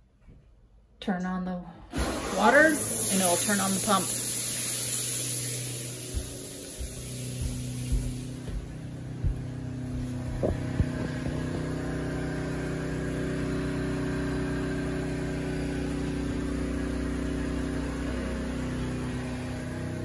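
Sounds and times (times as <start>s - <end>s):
water pump humming: 1.9s - 20.0s.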